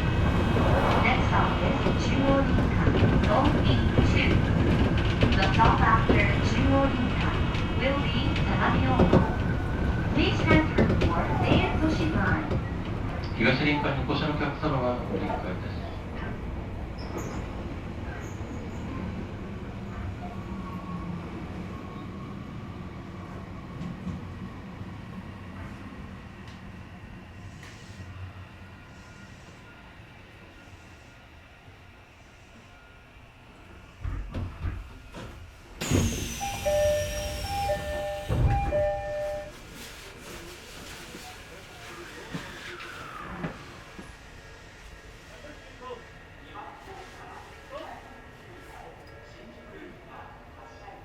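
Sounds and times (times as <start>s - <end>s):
train car rumbling: 0.0s - 31.1s, 32.2s - 45.5s.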